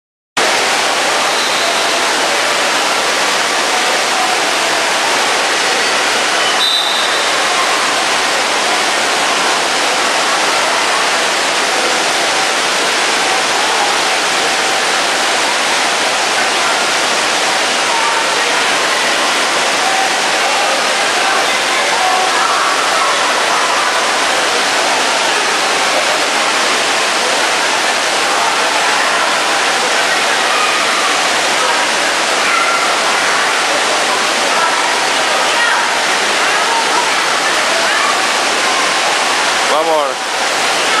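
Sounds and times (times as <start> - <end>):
chatter of many voices: 0.4 - 41.0
pool water splashing: 0.4 - 41.0.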